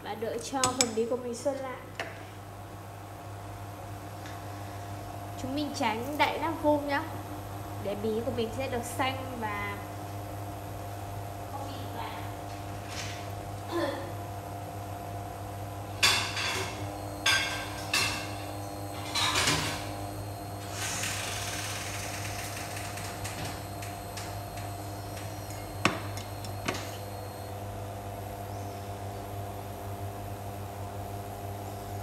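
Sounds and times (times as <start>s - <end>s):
electric cooktop humming: 0.0s - 32.0s.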